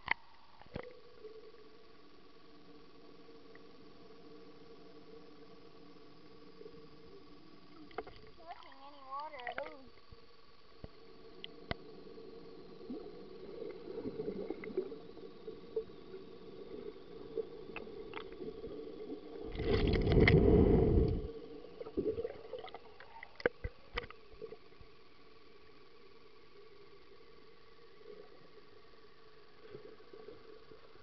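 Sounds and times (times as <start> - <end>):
faint underwater hum: 0.0 - 31.0.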